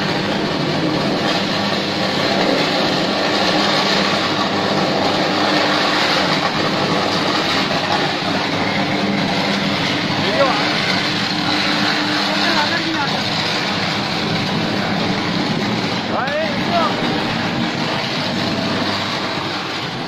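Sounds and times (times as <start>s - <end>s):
electric train rushing noise: 0.0s - 20.0s.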